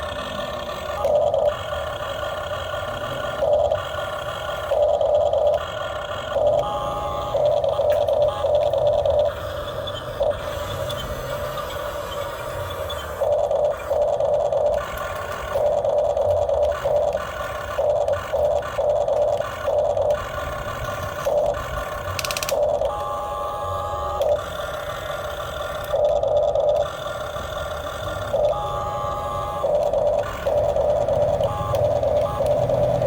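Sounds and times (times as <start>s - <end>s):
model excavator motors whining: 0.0s - 33.0s
steady low hum: 0.0s - 33.0s.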